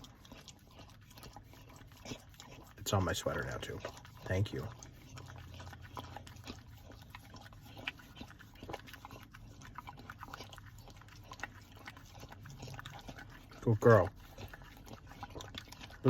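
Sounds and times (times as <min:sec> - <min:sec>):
dog licking and lapping: 0:00.0 - 0:16.0.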